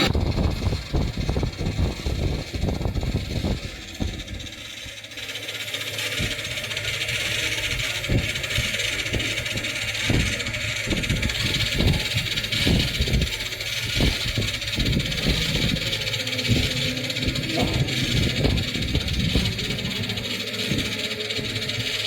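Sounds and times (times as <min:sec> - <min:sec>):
metal lathe motor hum: 0:00.0 - 0:22.0.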